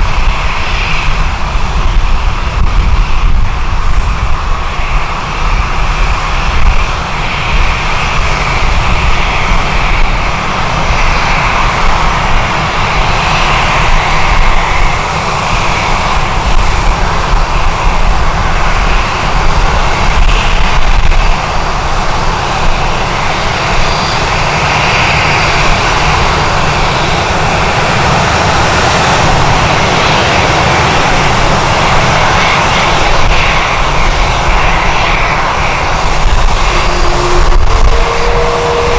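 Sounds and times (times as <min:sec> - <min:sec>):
jet engines running: 0:00.0 - 0:38.9
wind buffeting microphone: 0:00.0 - 0:38.9.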